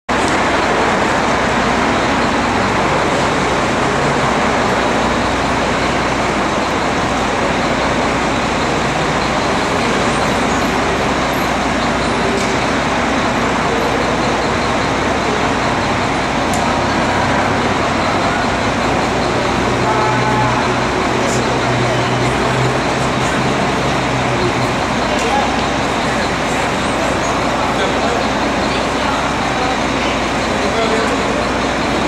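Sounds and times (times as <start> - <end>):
city traffic noise: 0.1 - 32.0.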